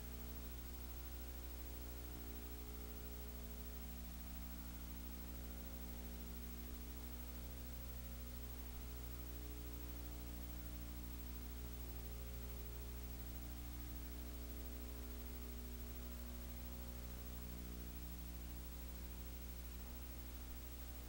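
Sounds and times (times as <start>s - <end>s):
constant hiss: 0.0s - 21.0s
electrical hum: 0.0s - 21.0s.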